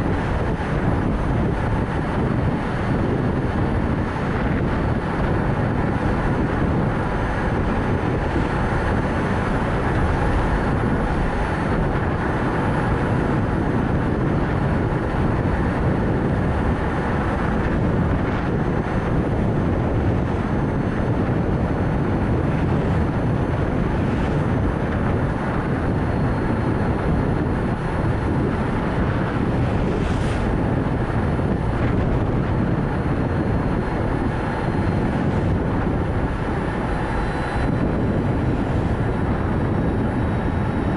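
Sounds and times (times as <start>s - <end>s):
road and tyre noise: 0.0s - 40.9s
wind rumble: 0.0s - 40.9s.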